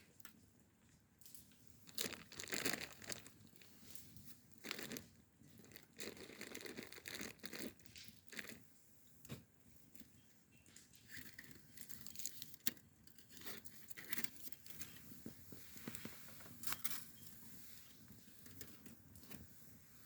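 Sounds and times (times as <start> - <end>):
crinkling and rustling: 0.0 - 20.0.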